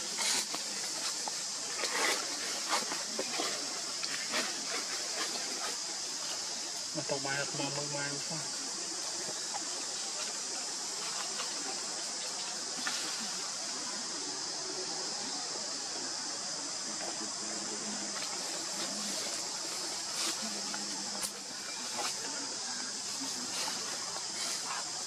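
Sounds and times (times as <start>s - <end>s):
insect chorus drone: 0.0s - 25.0s.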